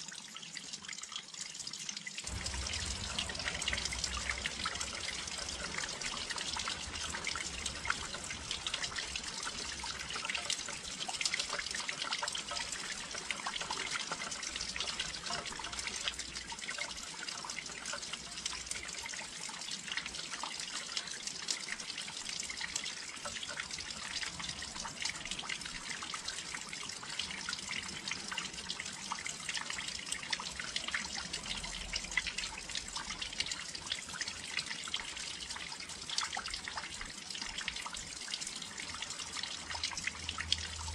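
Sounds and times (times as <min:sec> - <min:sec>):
rain dripping on windowsill: 0:00.0 - 0:40.9.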